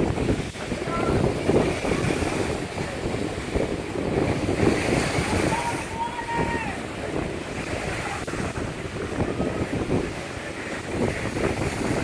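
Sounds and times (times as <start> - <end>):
waves washing onto beach: 0.0 - 12.0
wind buffeting microphone: 0.0 - 12.0.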